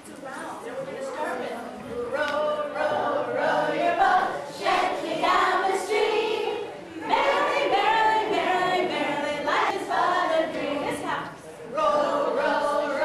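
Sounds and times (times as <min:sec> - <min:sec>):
woman and children singing: 0:01.2 - 0:13.0.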